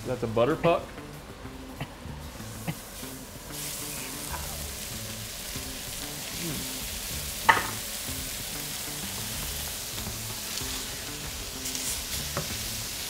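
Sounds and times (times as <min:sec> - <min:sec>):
background music: 0:00.0 - 0:13.0
fish sizzling in a frying pan: 0:02.3 - 0:13.0.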